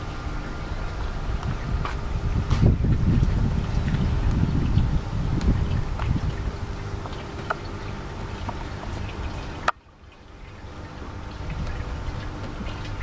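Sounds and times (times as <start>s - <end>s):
wind rumble on microphone: 0.0s - 9.7s, 10.5s - 13.0s
water swirling and trickling: 0.0s - 13.0s.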